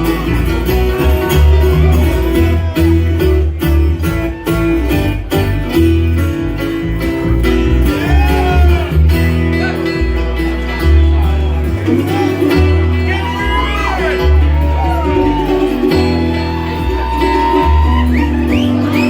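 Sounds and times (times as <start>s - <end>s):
acoustic guitar picking: 0.0s - 19.0s
bass line: 0.0s - 19.0s.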